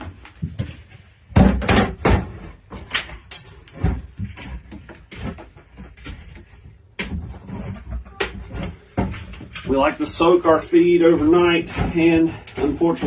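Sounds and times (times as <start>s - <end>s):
objects knocking and clattering: 0.0s - 13.0s.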